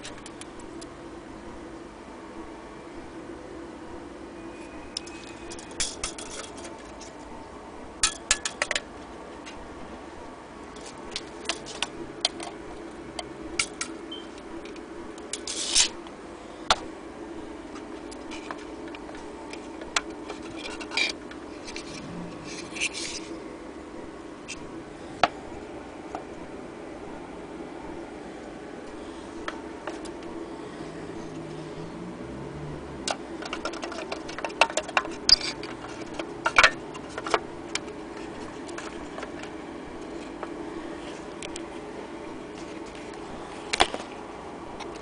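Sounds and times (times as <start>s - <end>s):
steady low background hum: 0.0s - 45.0s.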